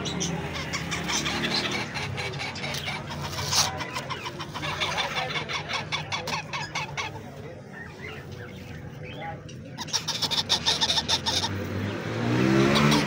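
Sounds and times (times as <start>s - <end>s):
parrot chicks begging calls: 0.0s - 13.0s.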